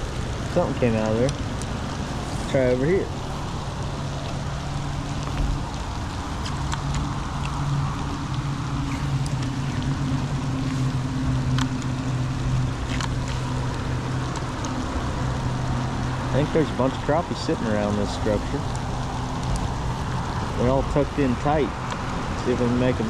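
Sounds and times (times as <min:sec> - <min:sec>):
electric trolling motor hum: 0:00.0 - 0:23.0
rain hiss: 0:00.0 - 0:23.0
raindrops ticking: 0:00.0 - 0:23.0.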